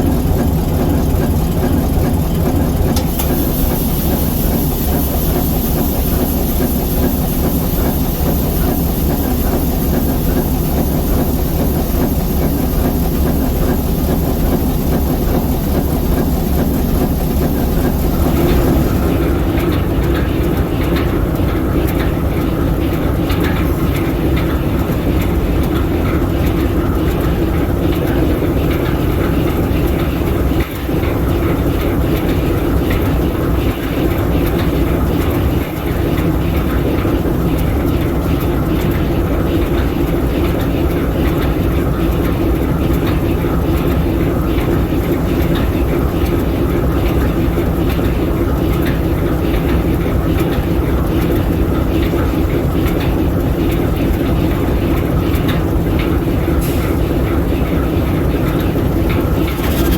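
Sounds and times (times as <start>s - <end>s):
locomotive diesel engine running: 0.0s - 59.9s.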